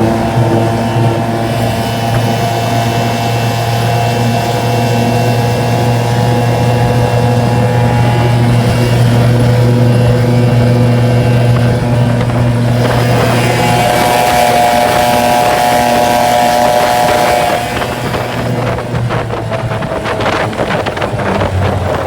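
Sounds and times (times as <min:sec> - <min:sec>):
outboard motor at full throttle: 0:00.0 - 0:22.0.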